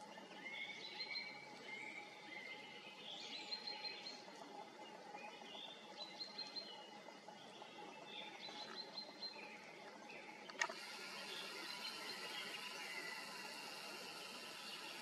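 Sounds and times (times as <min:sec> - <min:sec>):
faint outdoor hum: 0:00.0 - 0:15.0
songbirds chirping: 0:00.0 - 0:15.0.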